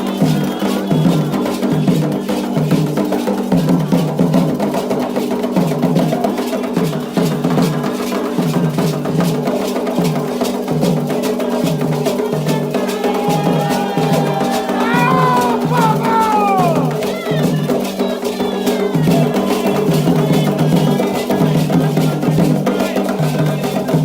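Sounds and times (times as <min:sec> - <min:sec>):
sharp dry hand drum strokes: 0:00.0 - 0:24.0.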